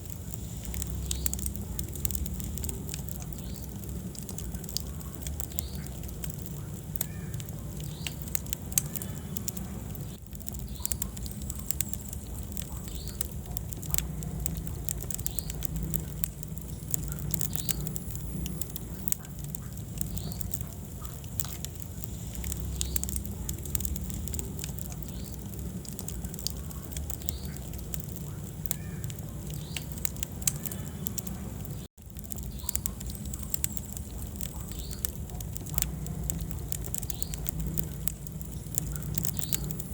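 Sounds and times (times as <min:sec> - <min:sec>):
logs crackling and snapping: 0:00.0 - 0:39.9
low rumble of flames: 0:00.0 - 0:39.9.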